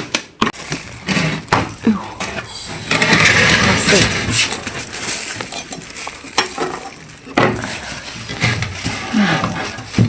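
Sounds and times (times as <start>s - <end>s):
crunchy frost scraping: 0.6s - 10.0s.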